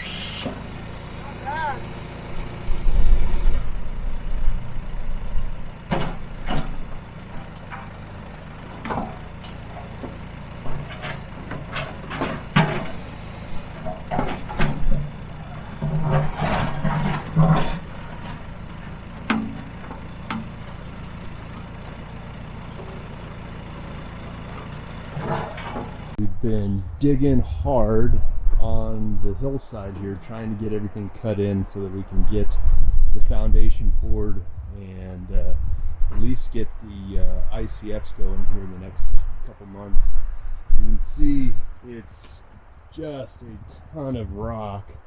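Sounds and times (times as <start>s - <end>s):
backhoe engine running: 0.0s - 45.0s.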